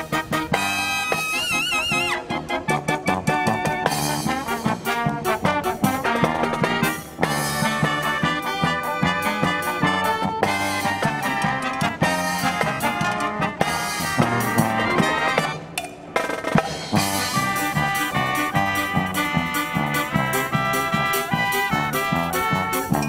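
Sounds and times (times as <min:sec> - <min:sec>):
brass marching band playing: 0:00.0 - 0:23.0.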